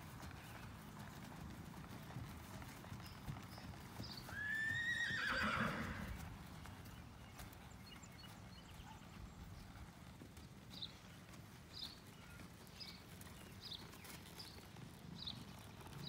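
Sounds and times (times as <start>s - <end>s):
horse hoofbeats on grass: 0.0s - 16.0s.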